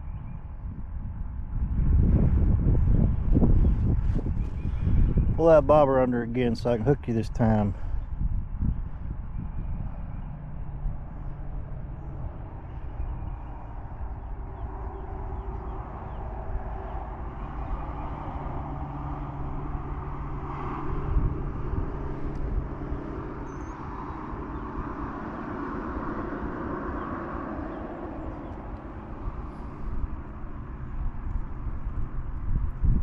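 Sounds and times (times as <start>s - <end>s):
low hum: 0.0s - 5.4s, 6.0s - 33.0s
distant engine droning: 0.0s - 33.0s
low outdoor rumble: 0.0s - 33.0s.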